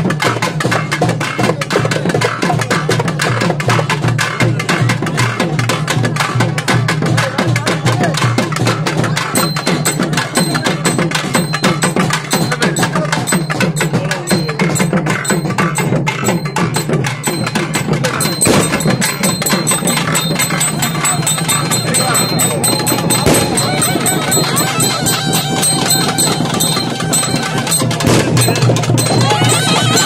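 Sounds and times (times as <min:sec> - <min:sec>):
drums beaten in fast rhythm: 0:00.0 - 0:30.0.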